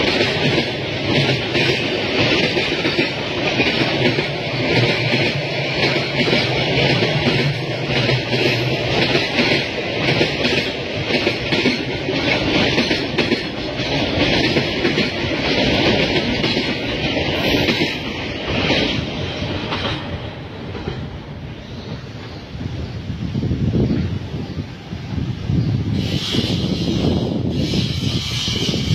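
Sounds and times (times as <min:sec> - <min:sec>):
freight train rolling past: 0:00.0 - 0:28.9.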